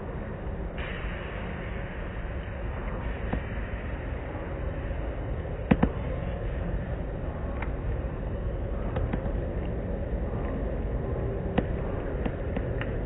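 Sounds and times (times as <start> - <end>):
car wash machinery and water rushing: 0.0 - 13.0.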